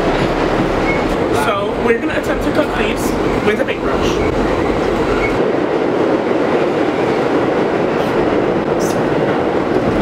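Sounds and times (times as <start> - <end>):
subway wheels rumbling and rattling: 0.0 - 10.0.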